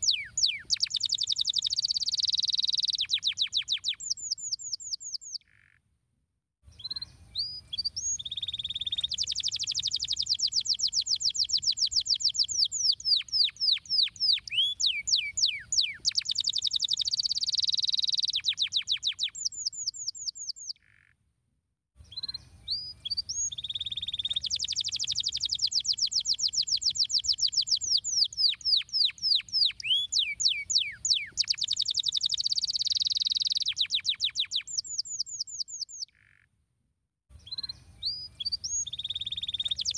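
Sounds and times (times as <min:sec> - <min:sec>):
canary singing trills: 0:00.0 - 0:05.8, 0:06.7 - 0:21.1, 0:22.1 - 0:36.4, 0:37.4 - 0:39.9.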